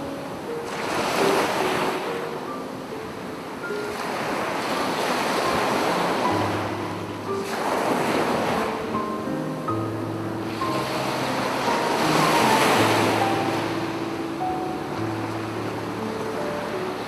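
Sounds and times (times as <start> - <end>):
sea waves on a beach: 0.0 - 17.0
soft piano music: 0.0 - 17.0.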